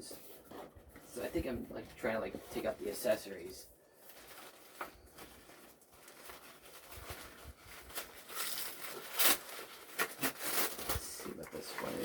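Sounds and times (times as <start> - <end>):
packaging rustling and crinkling: 0.1 - 12.0.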